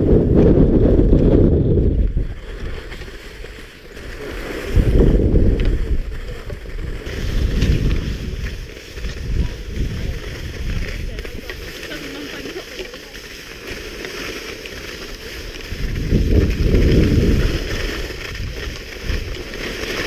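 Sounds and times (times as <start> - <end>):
wind buffeting microphone: 0.0 - 3.2, 4.0 - 13.2, 15.0 - 20.0
skis scraping on packed snow: 0.0 - 20.0.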